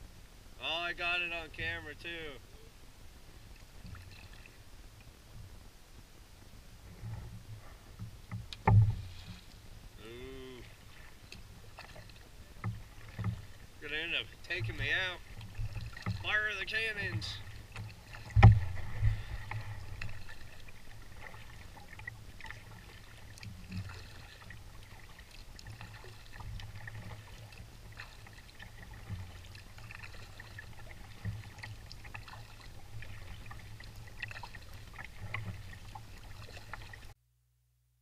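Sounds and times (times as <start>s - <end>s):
water splashing against hull: 0.6s - 37.2s.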